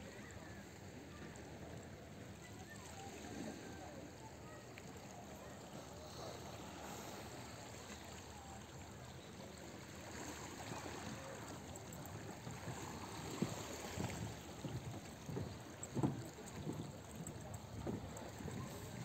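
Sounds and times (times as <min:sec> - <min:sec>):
waves lapping on rocky shore: 0:02.3 - 0:19.0.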